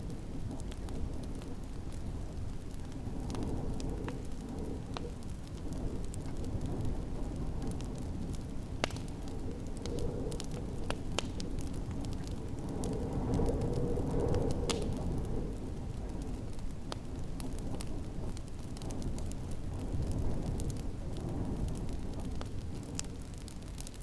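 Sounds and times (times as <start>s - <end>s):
wind rumble: 0.0s - 24.0s
wood fire crackling: 0.0s - 24.0s.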